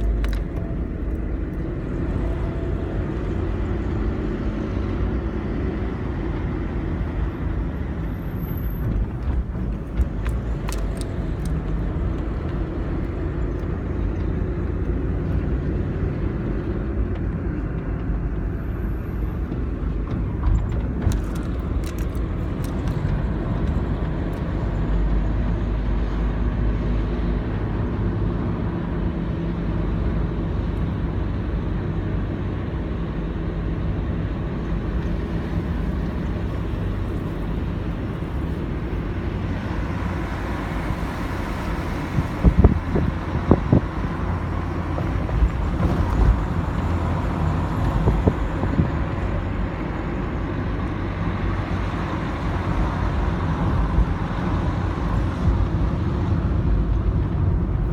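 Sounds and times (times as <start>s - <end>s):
vehicle motor rumbling: 0.0s - 57.9s.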